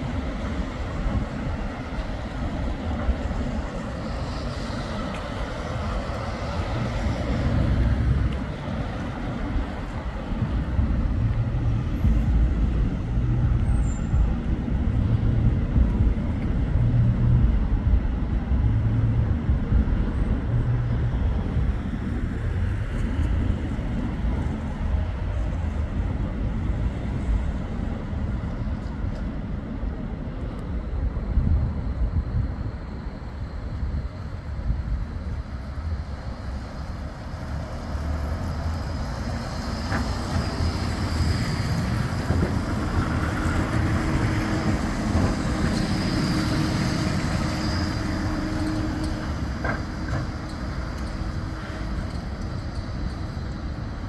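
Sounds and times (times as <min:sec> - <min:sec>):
traffic: 0:00.0 - 0:54.0
tram rumbling: 0:00.0 - 0:54.0
wind buffeting microphone: 0:00.0 - 0:54.0.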